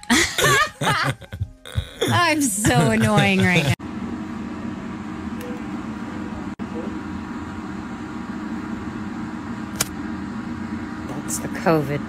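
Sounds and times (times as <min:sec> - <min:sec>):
low indoor hum: 0:00.0 - 0:12.0.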